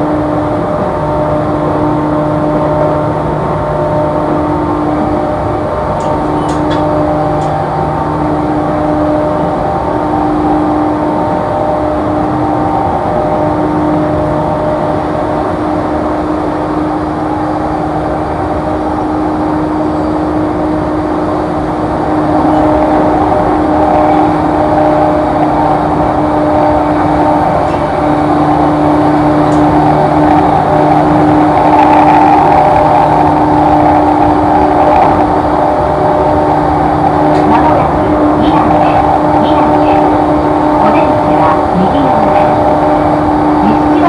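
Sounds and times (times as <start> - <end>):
traction motor hum: 0.0 - 44.0
train wheels rumbling on rails: 0.0 - 44.0.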